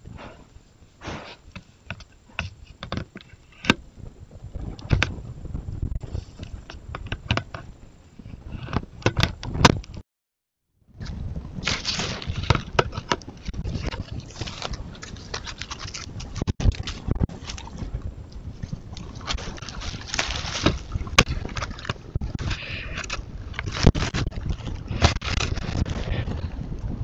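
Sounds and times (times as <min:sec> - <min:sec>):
constant low rumble: 0:00.0 - 0:10.0, 0:10.7 - 0:27.0.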